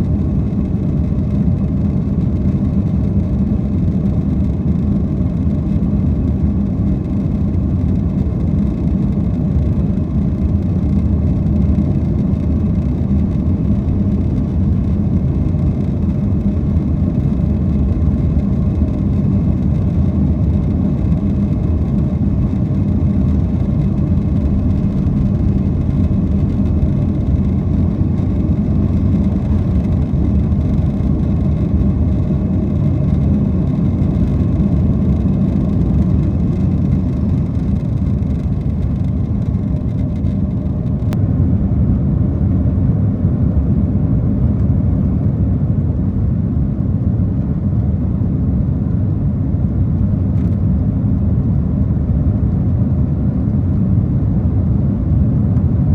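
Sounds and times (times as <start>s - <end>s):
airplane cabin engine rumble: 0.0s - 55.9s.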